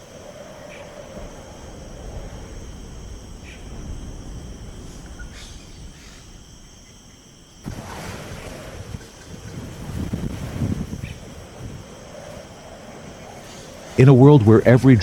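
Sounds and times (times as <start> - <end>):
insects trilling: 0.0 - 15.0
low rumbling noise: 0.0 - 15.0.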